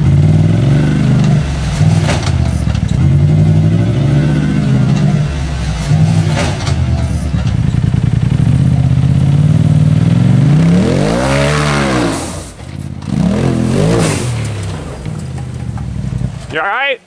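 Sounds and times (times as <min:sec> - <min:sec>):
engine running and revving: 0:00.0 - 0:16.4.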